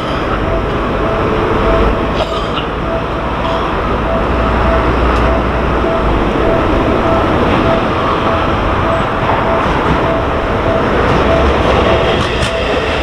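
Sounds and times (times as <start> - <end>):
level-crossing warning bell ringing: 0.0 - 13.0
steady low rumble: 0.0 - 13.0.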